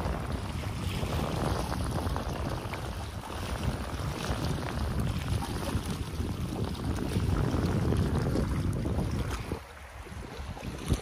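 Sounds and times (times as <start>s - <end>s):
waves splashing against concrete: 0.0s - 11.0s
wind buffeting microphone: 0.0s - 11.0s.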